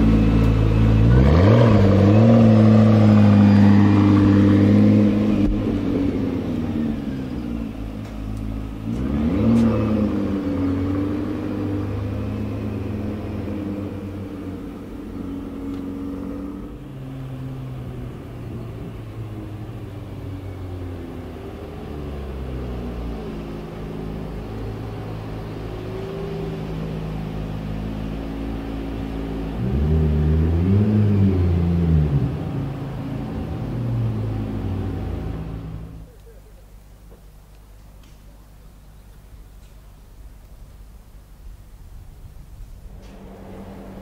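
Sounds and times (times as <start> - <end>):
car engine revving: 0.0 - 36.1, 42.8 - 44.0.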